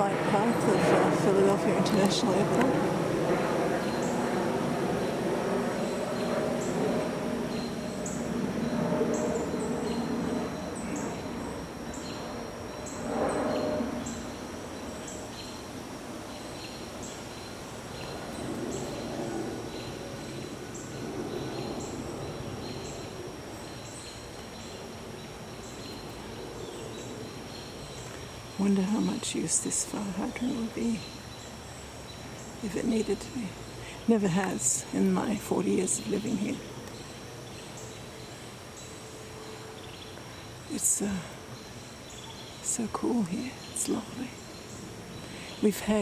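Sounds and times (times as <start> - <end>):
high insect trill: 0.0 - 46.0
jet airliner passing overhead: 0.0 - 46.0.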